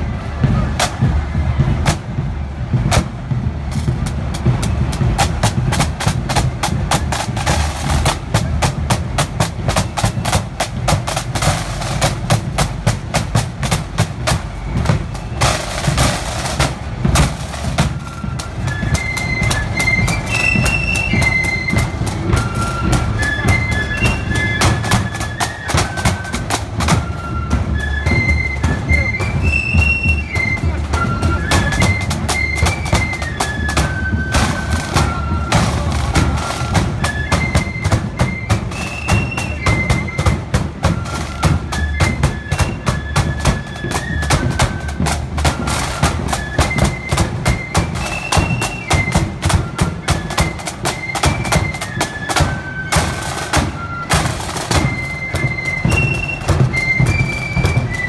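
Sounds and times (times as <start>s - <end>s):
flutes playing melody: 0.0s - 58.0s
side drums beating march: 0.0s - 58.0s.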